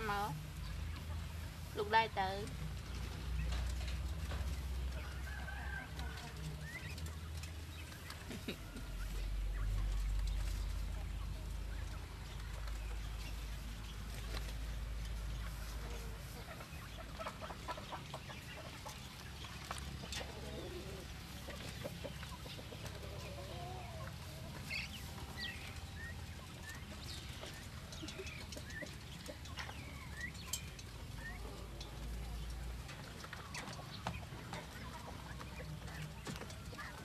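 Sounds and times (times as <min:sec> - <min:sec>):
quails chirping: 0:00.0 - 0:37.0.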